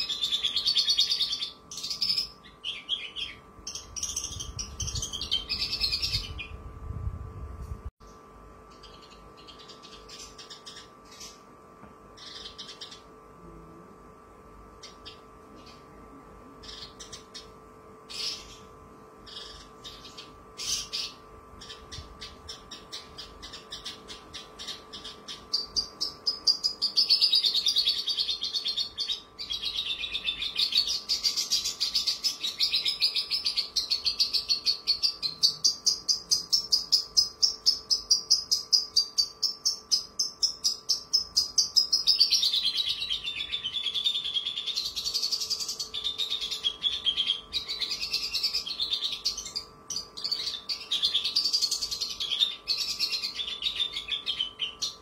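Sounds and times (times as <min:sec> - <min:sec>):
bird singing fast trill: 0:00.0 - 0:07.0, 0:08.0 - 0:11.5, 0:12.1 - 0:13.2, 0:16.6 - 0:55.0.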